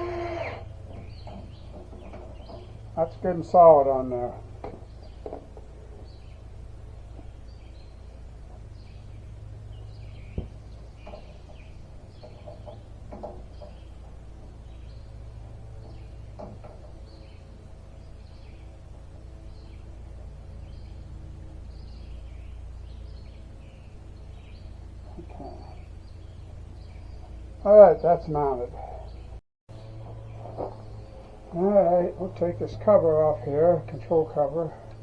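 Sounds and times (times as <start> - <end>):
birds chirping: 0.0 - 35.0
low hum: 0.0 - 35.0.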